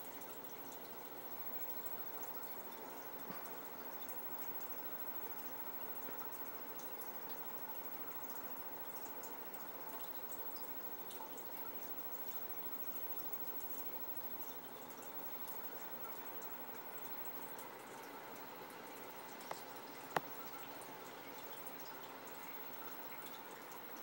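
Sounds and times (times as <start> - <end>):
water trickling and dripping: 0.0 - 24.0.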